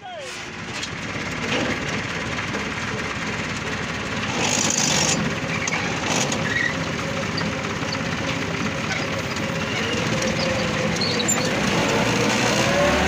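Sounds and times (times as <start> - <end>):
engine running with rattle: 0.1 - 13.0.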